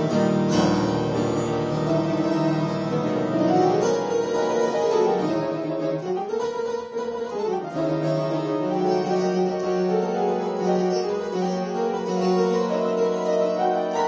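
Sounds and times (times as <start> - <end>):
grand piano improvisation: 0.0 - 14.0.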